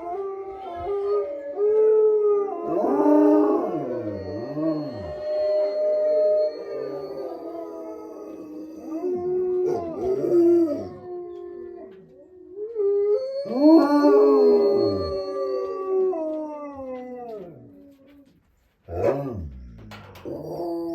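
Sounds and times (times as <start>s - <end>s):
wolves howling: 0.0s - 20.9s.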